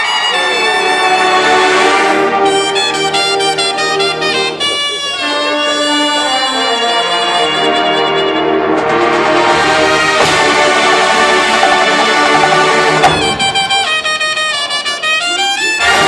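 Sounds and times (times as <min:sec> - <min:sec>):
brass section playing loudly: 0:00.0 - 0:16.0.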